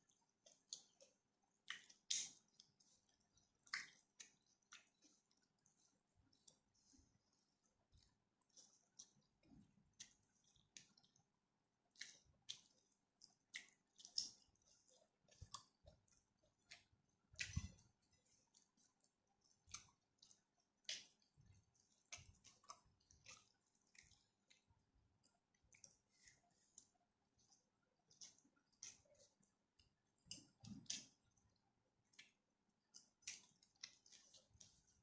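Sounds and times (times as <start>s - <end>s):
close-up chewing with mouth clicks: 0.0s - 35.0s.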